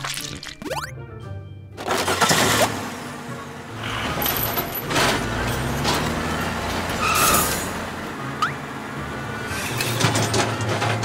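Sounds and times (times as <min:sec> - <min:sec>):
truck engine running: 0:01.8 - 0:11.0.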